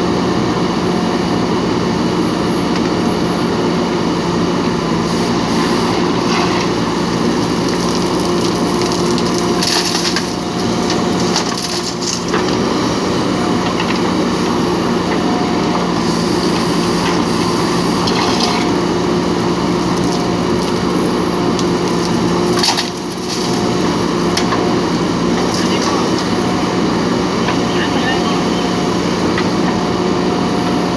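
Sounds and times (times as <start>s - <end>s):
diesel engine under load: 0.0s - 30.9s
soil and stones crunching: 4.8s - 30.9s.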